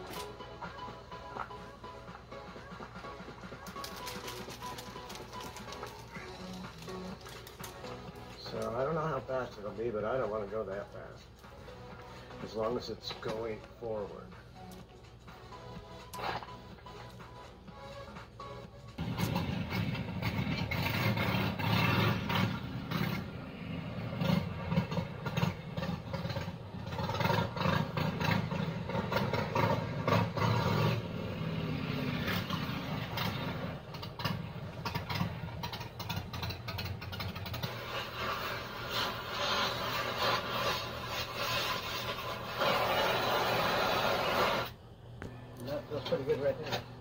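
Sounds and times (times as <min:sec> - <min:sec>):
vehicle engine starting and running: 0:00.0 - 0:44.8.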